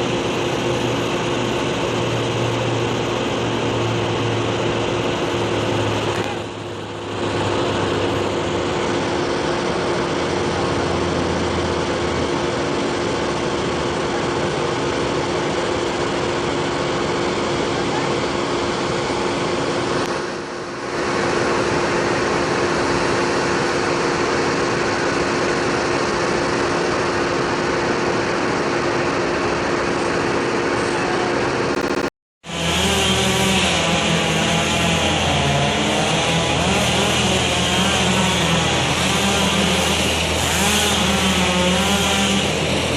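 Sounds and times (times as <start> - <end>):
engine running at high speed: 0.0 - 42.9.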